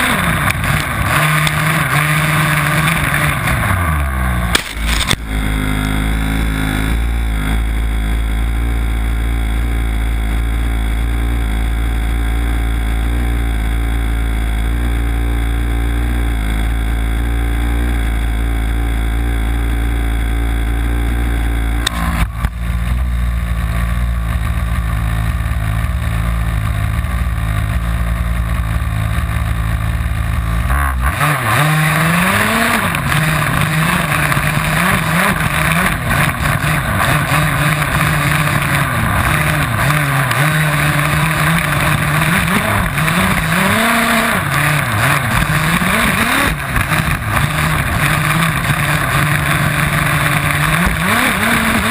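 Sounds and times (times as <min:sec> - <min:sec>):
small two-stroke engine: 0:00.0 - 0:51.9.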